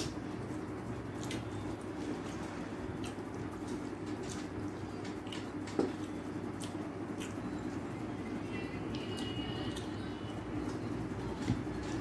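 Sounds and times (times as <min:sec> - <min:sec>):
wet eating by hand: 0:00.0 - 0:12.0.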